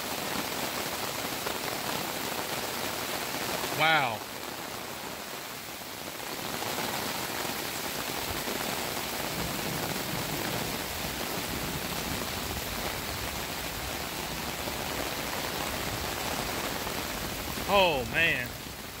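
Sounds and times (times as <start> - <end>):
heavy rain on flooded lawn: 0.0 - 19.0.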